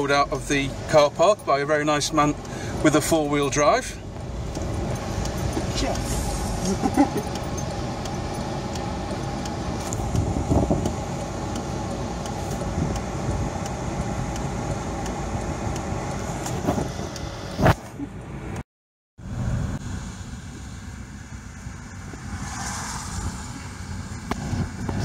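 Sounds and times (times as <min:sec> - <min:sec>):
car cabin rumble and hum: 0:00.0 - 0:18.6, 0:19.2 - 0:25.0.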